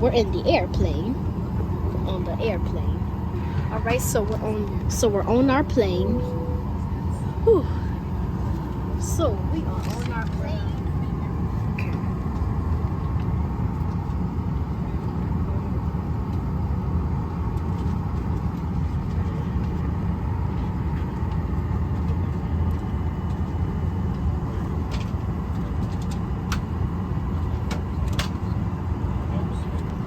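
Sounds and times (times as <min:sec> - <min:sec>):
airliner cabin engine drone: 0:00.0 - 0:30.0.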